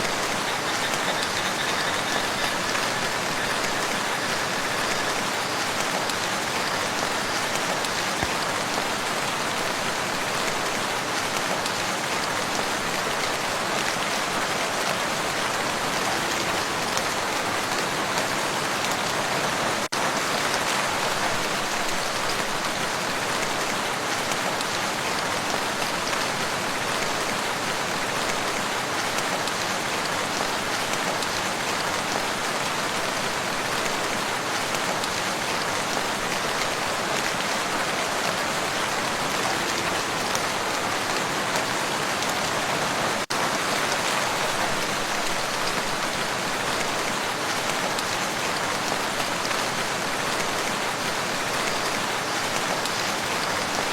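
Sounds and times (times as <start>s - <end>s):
rain falling on water: 0.0s - 53.9s.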